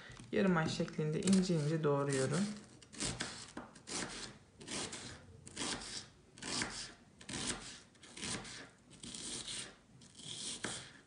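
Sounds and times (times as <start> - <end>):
knife slicing onion on wooden board: 1.3 - 11.0.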